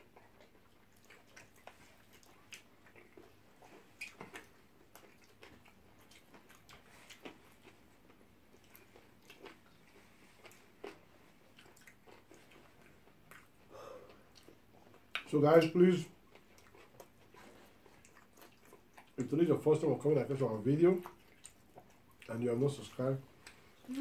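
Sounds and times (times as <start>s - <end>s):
chewing and biting food: 0.0s - 24.0s.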